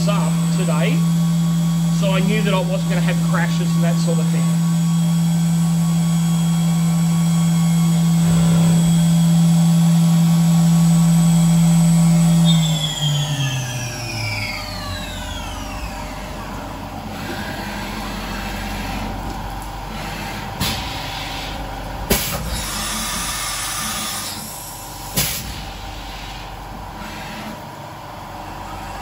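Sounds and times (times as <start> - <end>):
mill spindle whine: 0.0 - 29.0.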